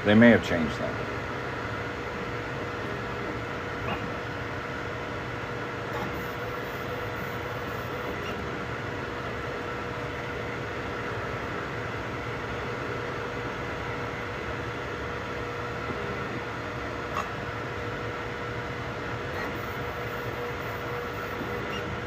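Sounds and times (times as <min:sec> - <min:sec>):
constant whining tones: 0:00.0 - 0:22.0
printer fans and motors whirring: 0:00.0 - 0:22.0.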